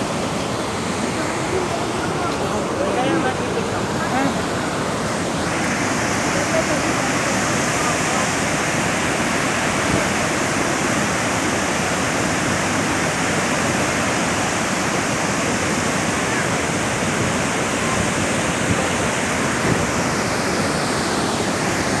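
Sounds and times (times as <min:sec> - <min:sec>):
waterfall thundering: 0:00.0 - 0:22.0.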